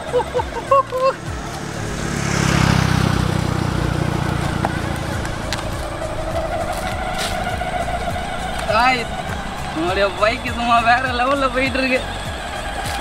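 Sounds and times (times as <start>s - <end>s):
simulated motorcycle engine sound: 0.0s - 13.0s.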